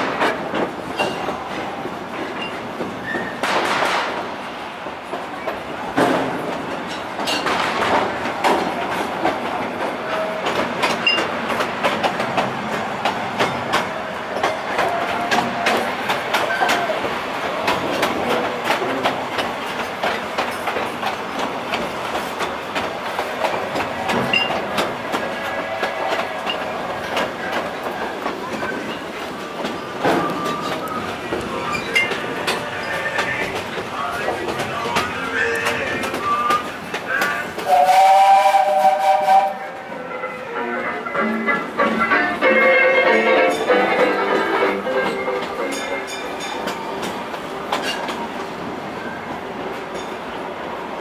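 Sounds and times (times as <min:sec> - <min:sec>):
train wheels clicking over rail joints: 0:00.0 - 0:40.0, 0:41.3 - 0:50.4.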